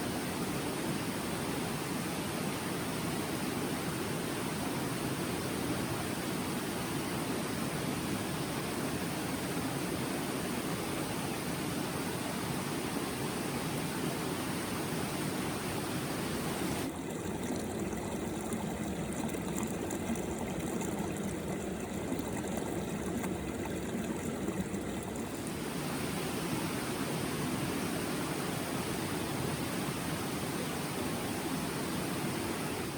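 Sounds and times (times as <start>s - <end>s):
stream water flowing: 0.0s - 32.9s.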